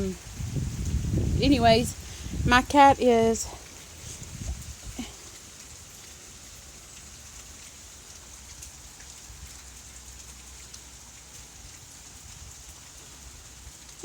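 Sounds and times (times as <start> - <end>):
rain pattering on surfaces: 0.0 - 14.0.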